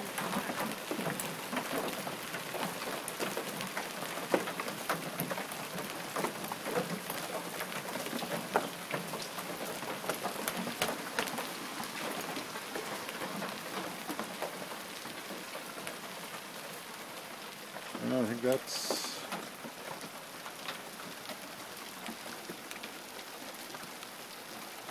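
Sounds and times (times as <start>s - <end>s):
hail clattering: 0.0s - 23.8s.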